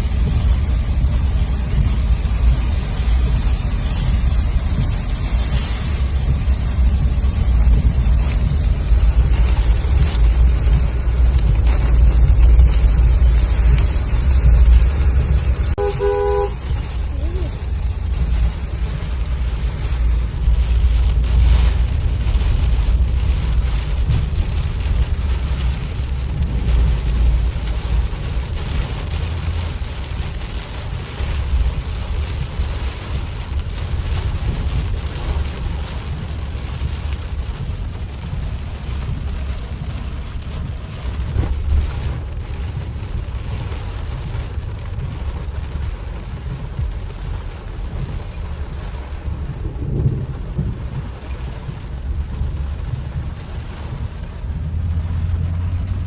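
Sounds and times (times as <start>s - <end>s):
rain falling: 0.0s - 56.0s
wind buffeting microphone: 0.0s - 56.0s.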